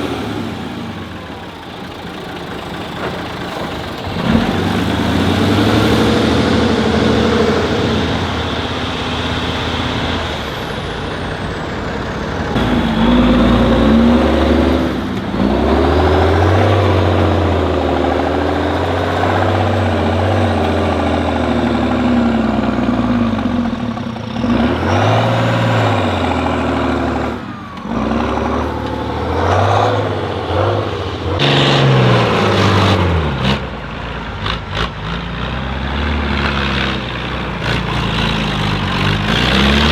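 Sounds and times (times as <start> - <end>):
diesel truck engines labouring: 0.0 - 39.9.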